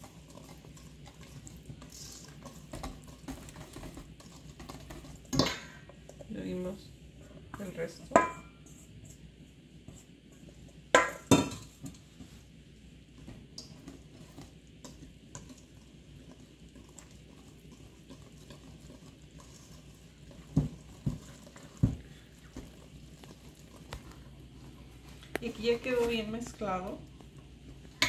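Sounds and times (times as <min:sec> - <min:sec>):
whisk stirring batter: 0:00.0 - 0:06.7, 0:11.6 - 0:28.0.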